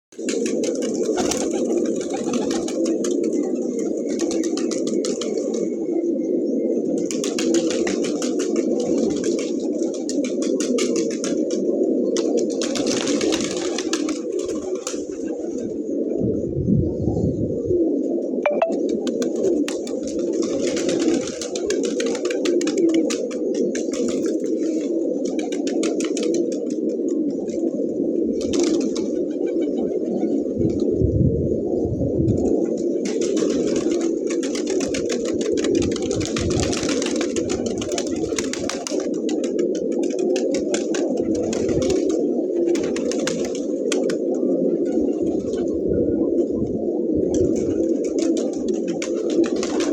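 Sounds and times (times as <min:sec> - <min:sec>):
pigeons cooing: 0:00.1 - 0:49.9.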